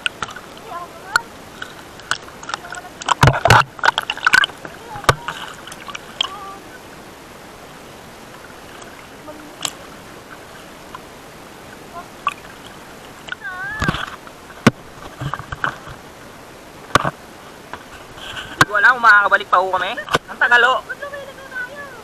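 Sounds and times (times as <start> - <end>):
paddle splashing water: 0.0 - 22.0
water lapping against hull: 0.0 - 22.0.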